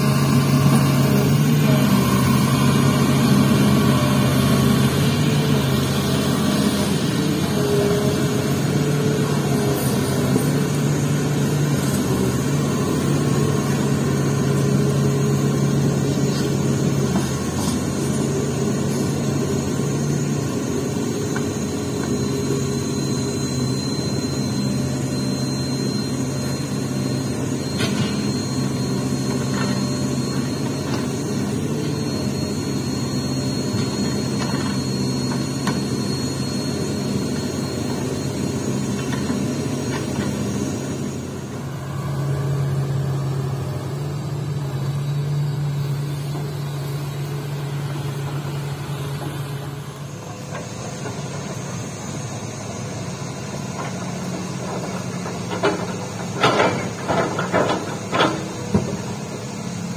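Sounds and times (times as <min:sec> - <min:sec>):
excavator diesel engine hum: 0:00.0 - 0:59.9.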